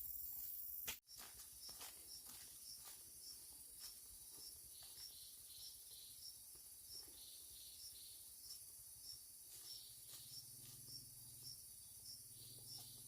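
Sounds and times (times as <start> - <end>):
insect buzz: 0.0 - 13.0
insect high chirp: 0.0 - 13.0.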